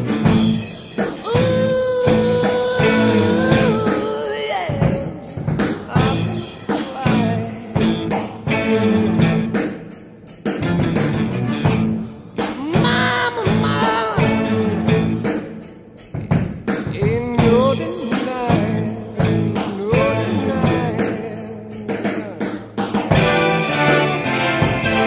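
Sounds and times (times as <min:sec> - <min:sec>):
rock music with singing: 0:00.0 - 0:25.0.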